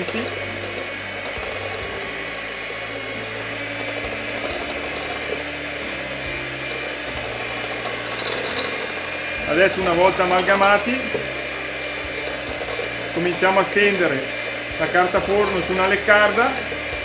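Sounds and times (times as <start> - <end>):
electric mixer whisking batter: 0.0 - 17.0.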